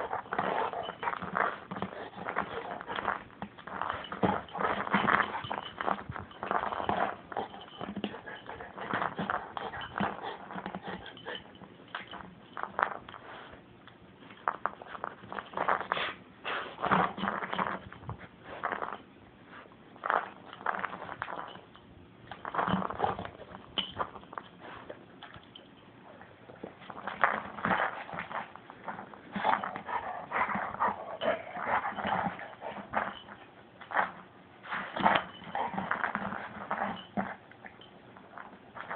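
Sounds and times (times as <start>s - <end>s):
dog chewing plastic ball: 0.0s - 13.2s, 14.2s - 19.0s, 20.0s - 25.5s, 26.5s - 38.9s.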